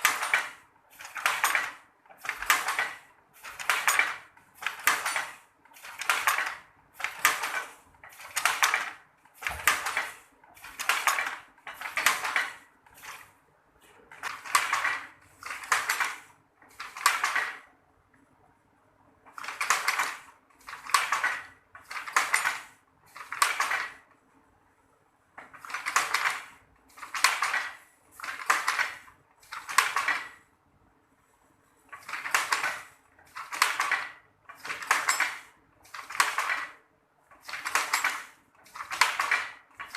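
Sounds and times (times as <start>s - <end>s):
weaving loom clattering: 0.0s - 17.8s, 19.2s - 24.2s, 25.4s - 30.5s, 31.8s - 39.9s.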